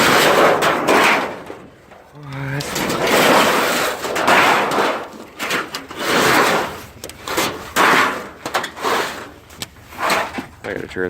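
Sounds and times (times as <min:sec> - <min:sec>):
metal siding scraping and clattering: 0:00.0 - 0:11.0.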